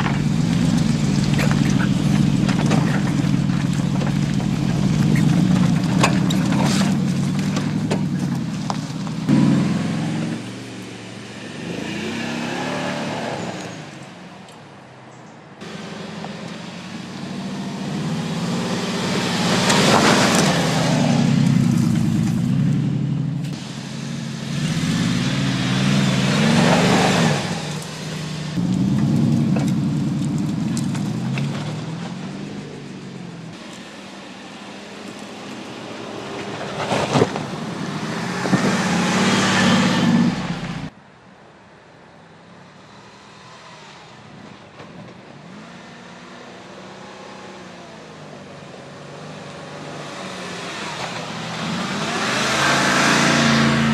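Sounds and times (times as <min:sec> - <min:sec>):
suv engine revving off-road: 0:00.0 - 0:14.0, 0:15.6 - 0:40.9, 0:45.4 - 0:53.9.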